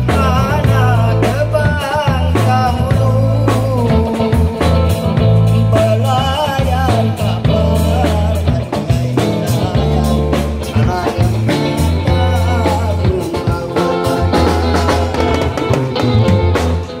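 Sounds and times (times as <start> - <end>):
guitar: 0.0 - 17.0
heavy bass line: 0.0 - 17.0.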